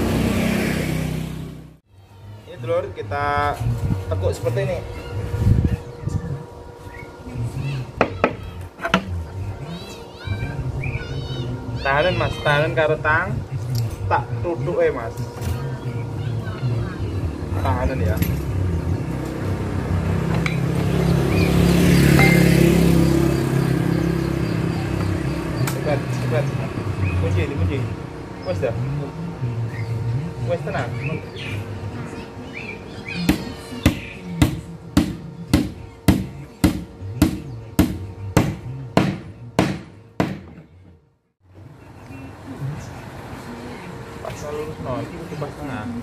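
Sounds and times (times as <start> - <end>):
vehicle engine passing: 0.0 - 1.8, 2.5 - 40.2.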